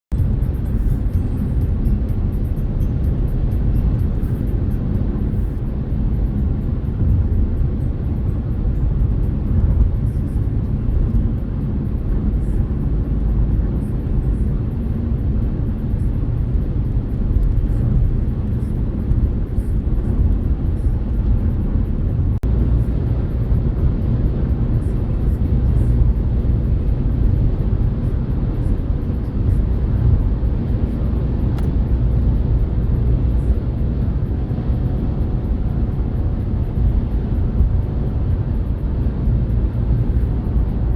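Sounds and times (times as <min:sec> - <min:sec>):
car engine hum: 0:00.1 - 0:40.9
road and tyre noise: 0:00.1 - 0:40.9.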